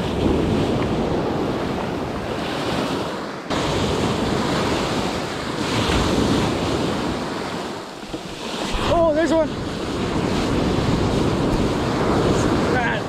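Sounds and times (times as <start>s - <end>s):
ocean surf breaking on sand: 0.0s - 13.0s
wind rumbling on microphone: 0.0s - 13.0s.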